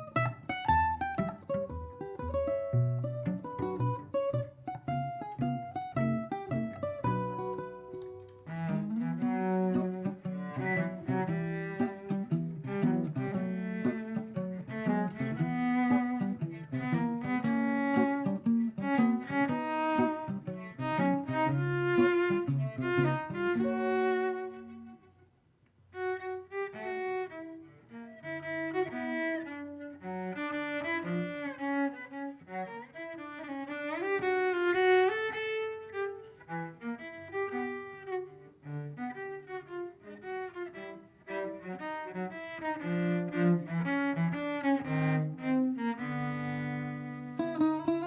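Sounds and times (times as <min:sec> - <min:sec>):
bowed cello melody: 0:00.0 - 0:25.3, 0:25.9 - 0:48.0.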